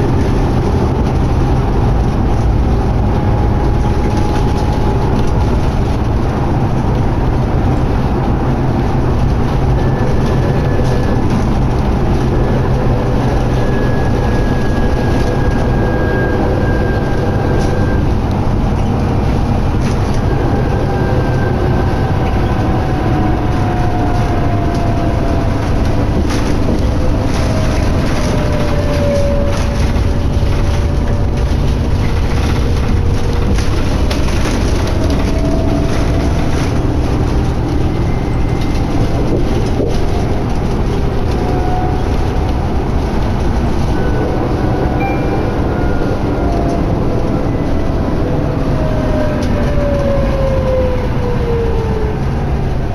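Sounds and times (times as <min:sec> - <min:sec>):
bus engine and road noise: 0:00.0 - 0:52.9
faint whine dropping in pitch: 0:00.0 - 0:52.9.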